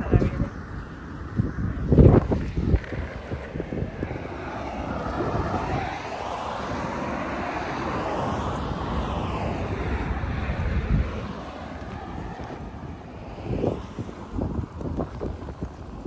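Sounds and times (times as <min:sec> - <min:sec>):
motor vehicle passing: 0:00.0 - 0:16.0.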